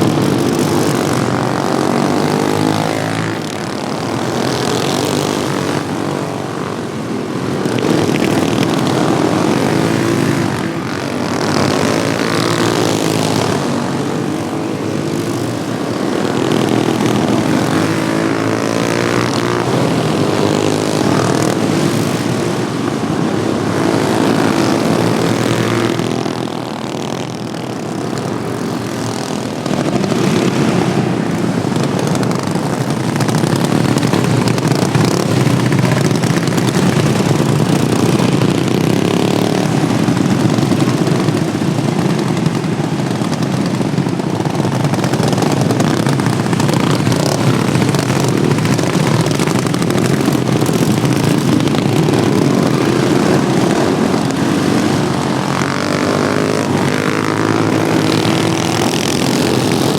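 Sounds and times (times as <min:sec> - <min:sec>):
small racing engines: 0:00.0 - 0:59.9.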